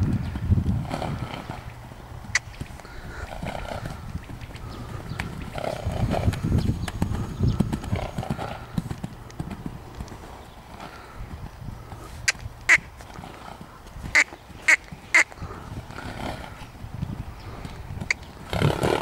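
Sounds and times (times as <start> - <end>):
horse hooves on gravel: 0.0 - 19.0.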